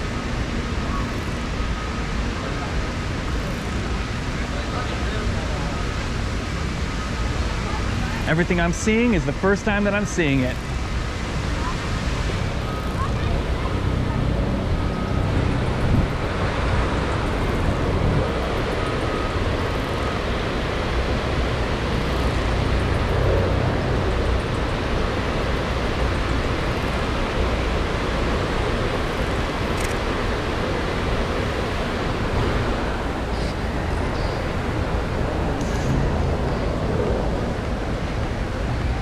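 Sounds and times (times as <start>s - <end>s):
city street traffic rumble: 0.0s - 39.0s.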